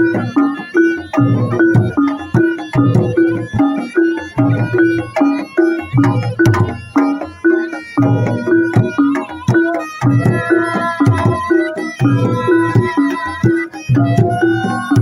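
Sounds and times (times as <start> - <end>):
drums and pitched percussion: 0.0 - 15.0.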